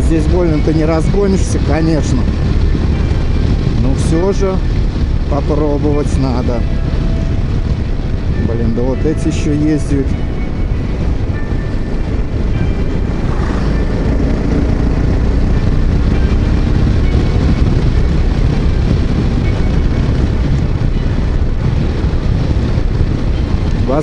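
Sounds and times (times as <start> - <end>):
motorcycle engine at road speed: 0.0 - 8.4, 10.3 - 20.7, 21.7 - 24.0
wind buffeting microphone: 0.0 - 24.0.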